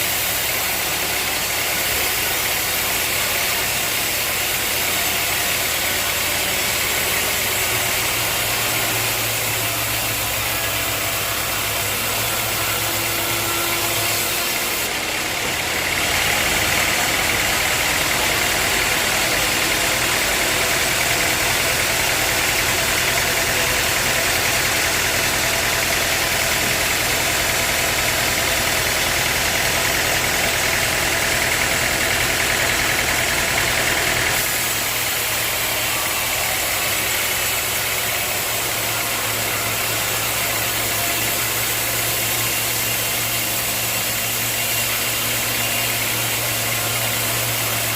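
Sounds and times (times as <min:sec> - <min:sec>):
sawmill machinery running: 0:00.0 - 0:47.9.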